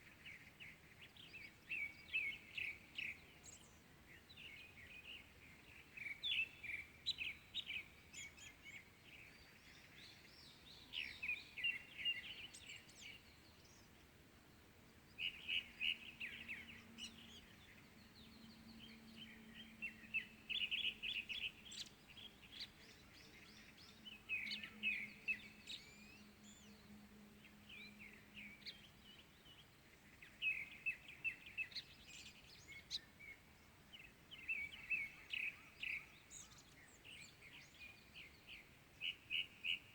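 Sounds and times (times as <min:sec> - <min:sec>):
faint outdoor background noise: 0:00.0 - 0:39.9
birds chirping: 0:00.2 - 0:39.9.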